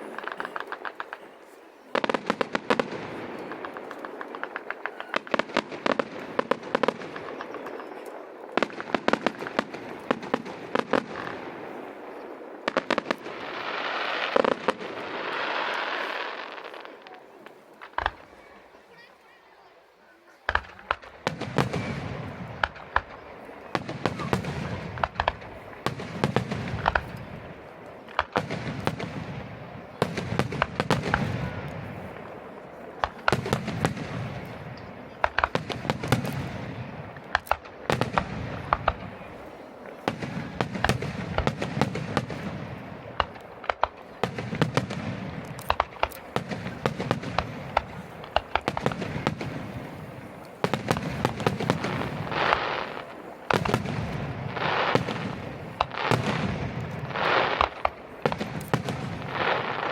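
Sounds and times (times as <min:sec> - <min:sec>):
fireworks crackling: 0:00.0 - 0:59.9
firework shells booming: 0:02.0 - 0:17.2, 0:20.5 - 0:59.9.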